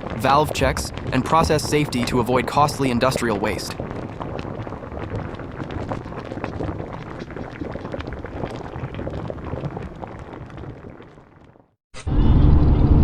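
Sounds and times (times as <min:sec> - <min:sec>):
juice gushing from tank: 0:00.0 - 0:11.7.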